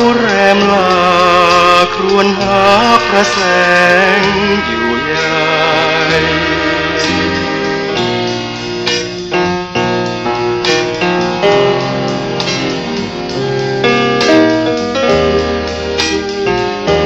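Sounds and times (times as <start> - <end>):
band playing melody over bass: 0.0 - 17.0.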